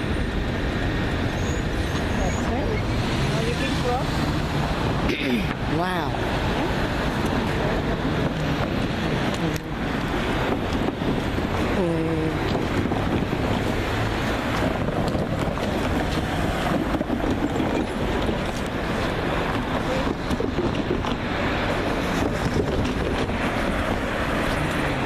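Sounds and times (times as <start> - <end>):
train wheels rumbling on rails: 0.0 - 25.0
wind buffeting microphone: 0.0 - 25.0.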